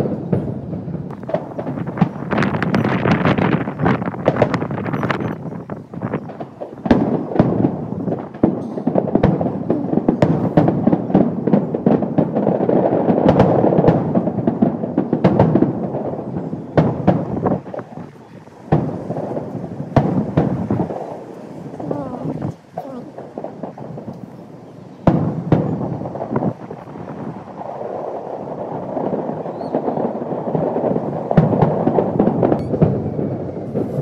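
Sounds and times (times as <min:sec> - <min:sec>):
firework rumble and crackle: 0:00.0 - 0:34.0
firework shells bursting: 0:00.0 - 0:34.0.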